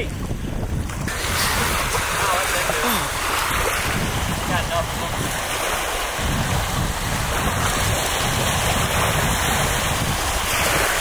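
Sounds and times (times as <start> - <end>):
water noise: 0.0 - 11.0
wind buffeting microphone: 0.0 - 11.0
wind rushing: 0.0 - 11.0.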